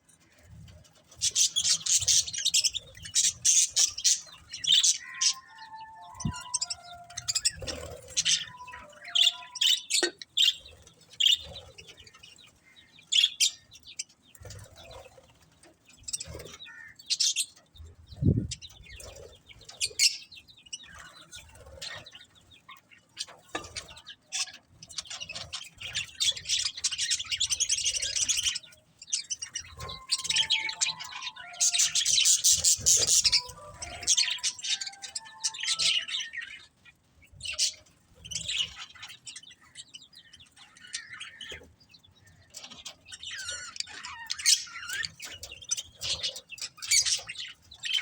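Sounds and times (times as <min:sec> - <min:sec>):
budgerigars chirping and chattering: 0:00.1 - 0:48.0.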